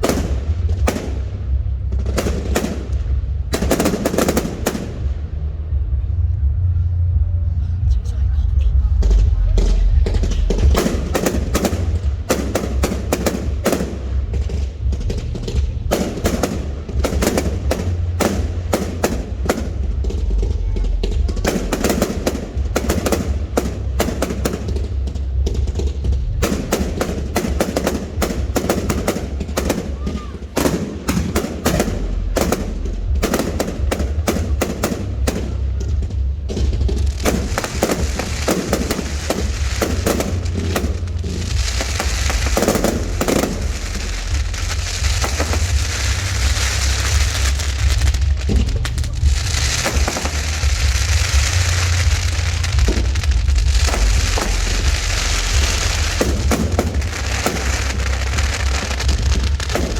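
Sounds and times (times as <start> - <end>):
fireworks bangs and crackles: 0.0 - 59.9
low rumble: 0.0 - 59.9.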